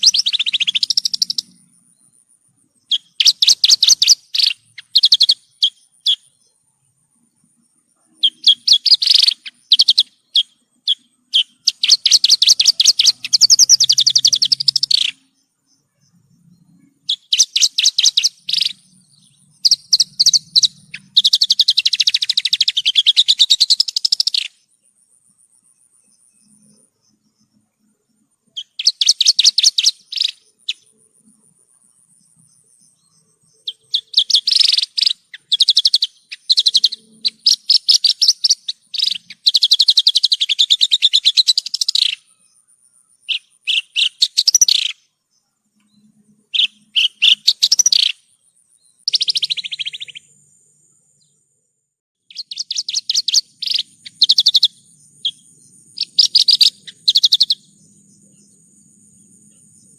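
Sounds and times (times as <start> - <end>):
bush lark singing: 0.0 - 51.6, 52.2 - 59.9.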